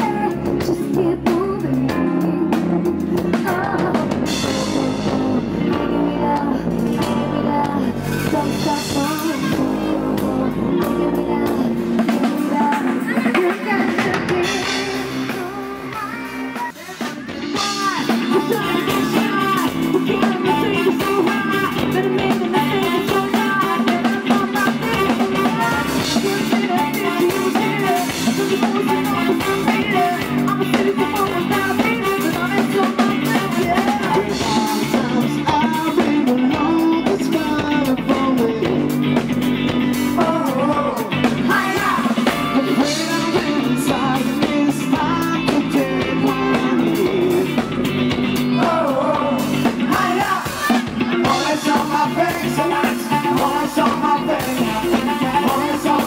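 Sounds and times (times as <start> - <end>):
people singing: 0.0 - 39.2, 39.8 - 56.0
drums beat: 0.0 - 56.0
keyboards: 0.0 - 56.0.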